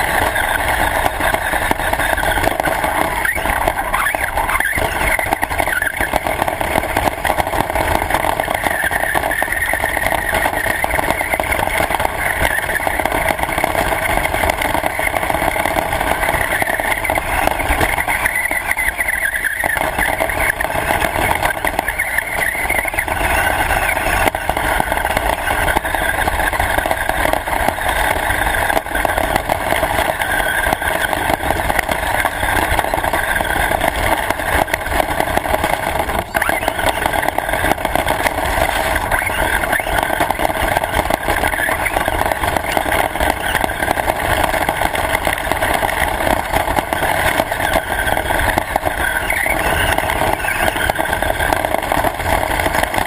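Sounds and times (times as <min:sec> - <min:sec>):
radio-controlled car motor whine: 0:00.0 - 0:53.0.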